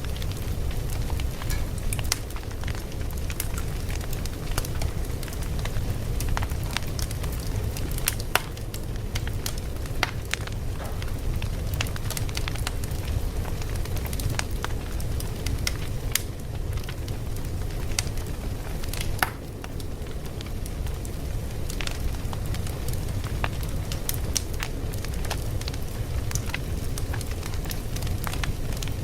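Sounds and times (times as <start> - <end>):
fire popping and snapping: 0.0 - 29.0
low rumble of flames: 0.0 - 29.0.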